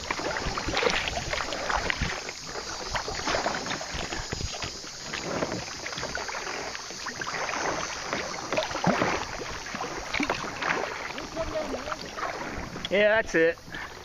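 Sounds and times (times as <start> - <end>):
kayak paddle splashing: 0.0 - 14.0
water lapping against kayak: 0.0 - 14.0.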